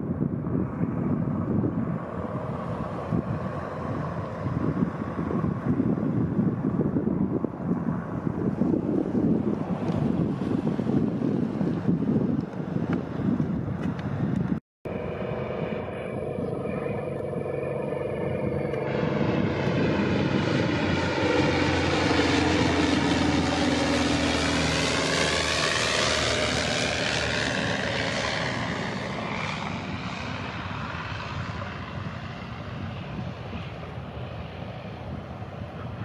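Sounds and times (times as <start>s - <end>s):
propeller plane engine drone: 0.0s - 36.0s.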